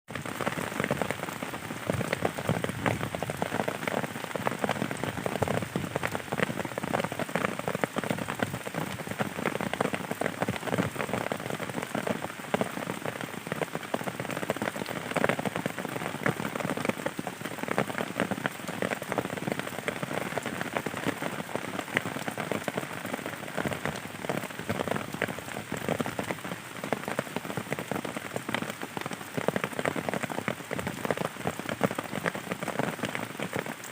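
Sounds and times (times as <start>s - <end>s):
rain falling: 0.1s - 33.9s
raindrops splashing close by: 0.1s - 33.9s.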